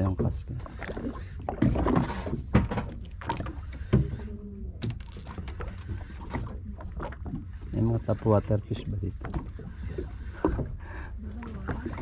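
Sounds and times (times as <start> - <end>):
boat engine low rumble: 0.0 - 12.0
water rushes and knocks: 0.0 - 12.0.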